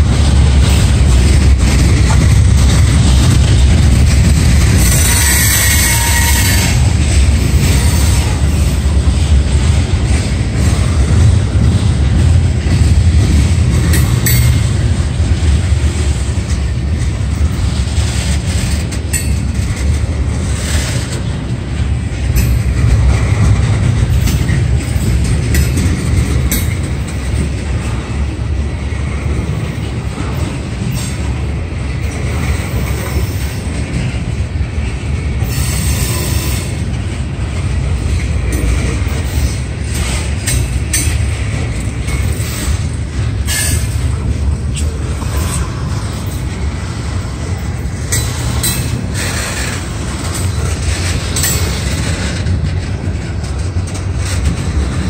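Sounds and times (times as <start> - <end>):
train cars rumbling past: 0.0 - 55.0
wheels clanking over rail: 0.0 - 55.0.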